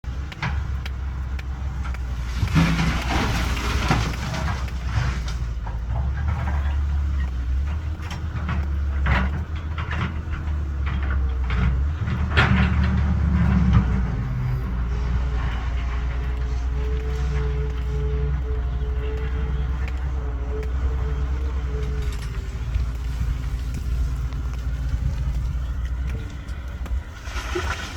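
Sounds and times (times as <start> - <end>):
excavator diesel engine running: 0.0 - 27.9
rock and dirt clattering: 0.0 - 27.9.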